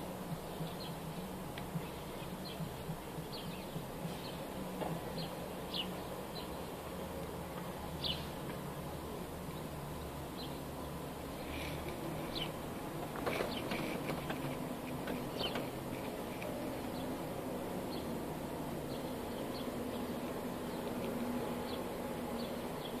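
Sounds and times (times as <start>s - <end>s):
sparrows chirping: 0.0s - 8.6s, 9.4s - 23.0s.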